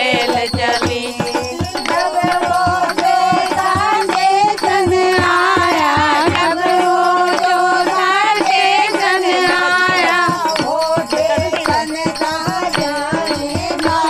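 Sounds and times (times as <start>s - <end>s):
hand drum beat: 0.0s - 14.0s
women singing devotional song: 0.0s - 14.0s.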